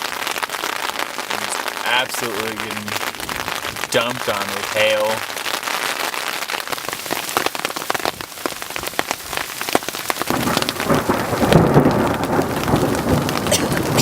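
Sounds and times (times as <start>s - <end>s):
thunder rumbling: 0.0s - 5.6s, 6.7s - 14.0s
hail pelting a tent: 0.0s - 14.0s.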